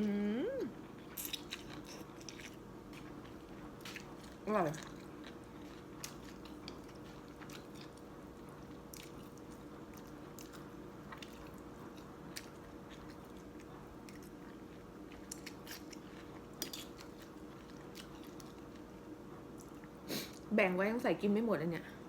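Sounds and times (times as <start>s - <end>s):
faint steady hum: 0.0s - 22.0s
person chewing noodle soup: 1.0s - 18.9s.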